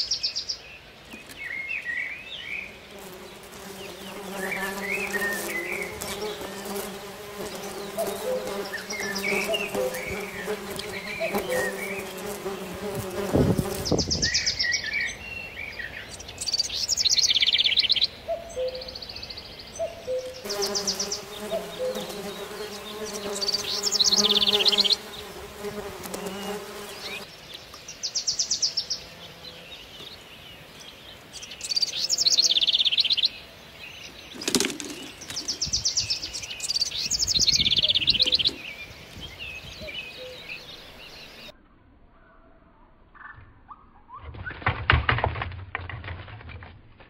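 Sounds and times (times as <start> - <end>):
songbirds trilling: 0.0 - 41.5.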